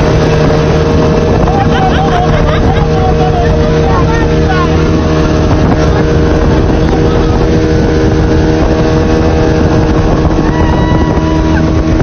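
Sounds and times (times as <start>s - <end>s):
motorboat engine droning: 0.0s - 12.0s
rushing water: 0.0s - 12.0s.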